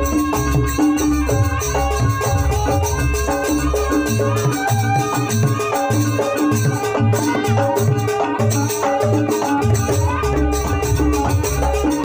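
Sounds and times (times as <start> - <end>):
gamelan percussion music: 0.0 - 12.0.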